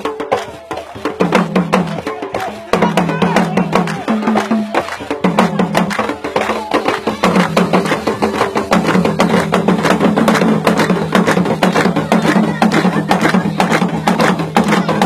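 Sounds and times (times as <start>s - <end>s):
sharp wooden percussion strikes: 0.0s - 15.0s.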